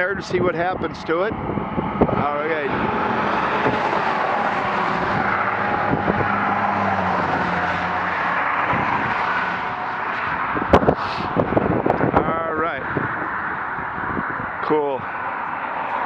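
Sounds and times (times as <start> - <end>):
road traffic passing: 0.0 - 16.0
vehicle engine drone: 0.0 - 16.0.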